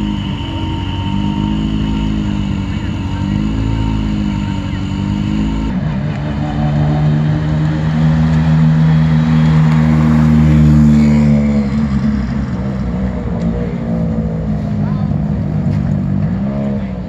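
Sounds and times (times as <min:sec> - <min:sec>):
rally car engine passing slowly: 0:00.0 - 0:17.0.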